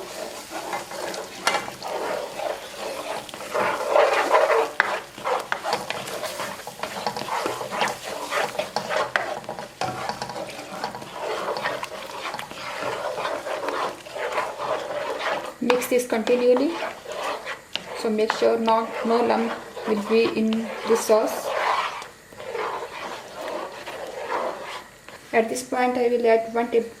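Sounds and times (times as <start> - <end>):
utensil scraping pan bottom: 0.0 - 25.3
sauce sizzling lightly: 0.0 - 26.4.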